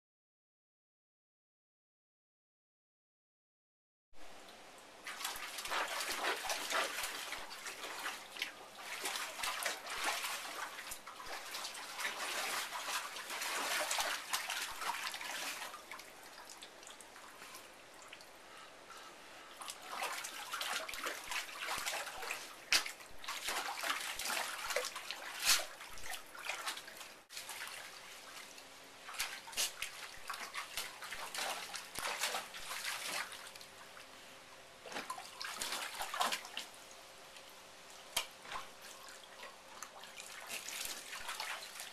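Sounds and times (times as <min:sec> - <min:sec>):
dogs splashing water in a pool: 0:05.0 - 0:34.2, 0:34.8 - 0:41.9.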